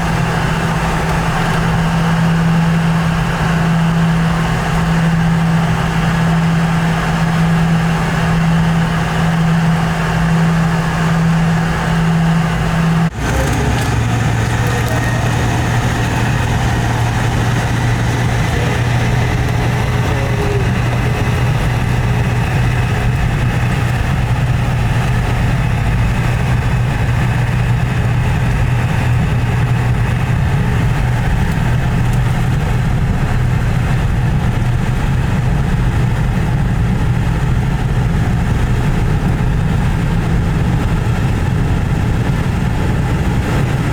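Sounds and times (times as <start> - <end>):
jet engine cabin drone: 0.0 - 43.9.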